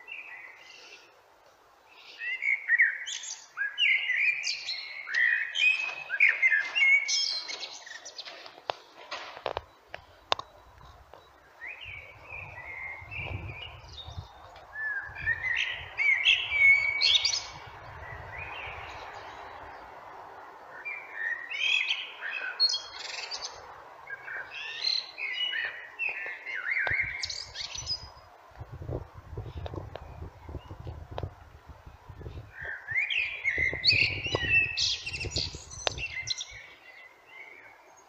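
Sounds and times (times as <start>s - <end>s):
blackbird singing: 0.0s - 1.1s, 2.0s - 8.4s, 10.0s - 19.9s, 20.7s - 28.3s, 32.5s - 38.0s.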